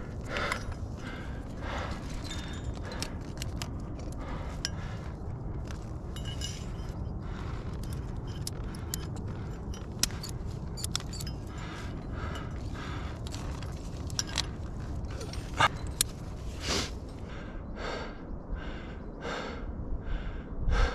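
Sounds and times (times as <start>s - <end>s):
metal climbing gear clinking: 0.0s - 17.2s
low rumble: 0.0s - 20.9s.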